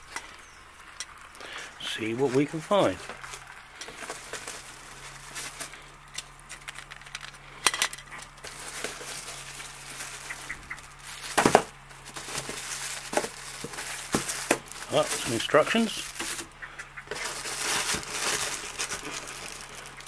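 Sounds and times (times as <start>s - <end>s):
plastic wrapping rustling: 0.0s - 20.0s
steady low hum: 0.0s - 20.0s
cardboard and polystyrene scraping: 1.4s - 16.5s, 17.1s - 20.0s.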